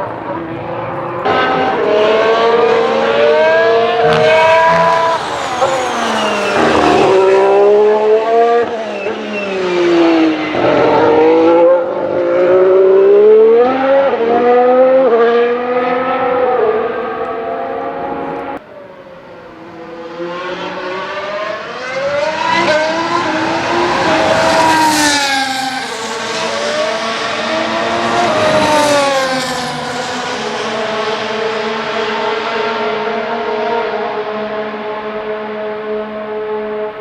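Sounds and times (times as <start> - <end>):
racing cars passing at high revs: 0.0 - 37.0.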